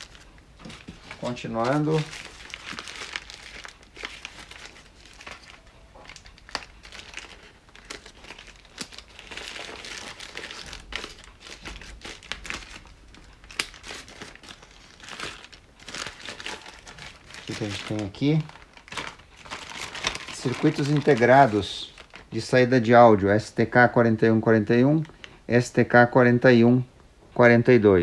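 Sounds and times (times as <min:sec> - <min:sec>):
plastic packet crinkling: 0:00.0 - 0:22.5.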